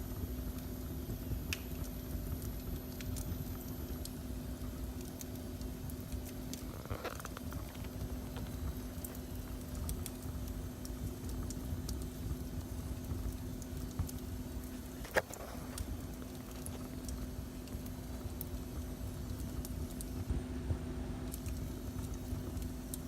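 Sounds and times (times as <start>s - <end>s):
wood fire crackling: 0.0s - 23.0s
fire pops: 0.1s - 23.0s.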